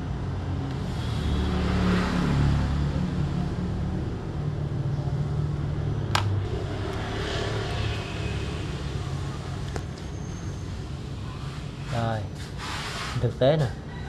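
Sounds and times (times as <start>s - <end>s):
motor vehicle rumbling: 0.0s - 13.9s.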